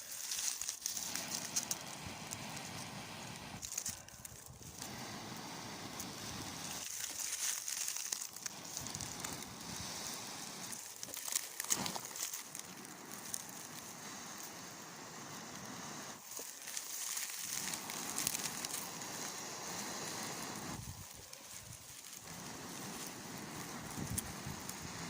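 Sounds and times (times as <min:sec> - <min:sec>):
person blowing on ember: 0:00.0 - 0:25.0.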